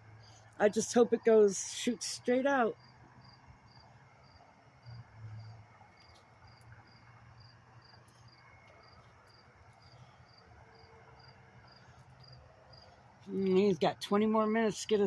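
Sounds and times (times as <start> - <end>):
faint cricket chirping: 0.0 - 13.7
low steady hum: 0.0 - 15.0.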